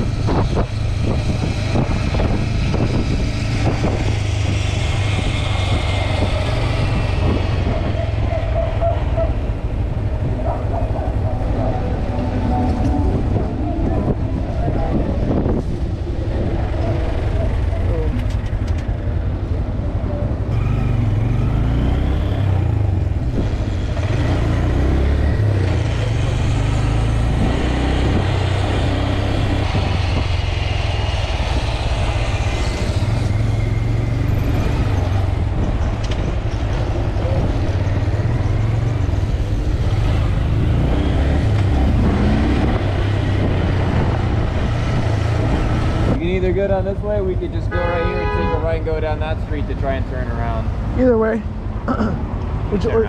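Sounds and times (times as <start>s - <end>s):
motorcycle engine accelerating: 0.0s - 19.6s, 20.2s - 46.5s
city traffic: 0.0s - 53.0s.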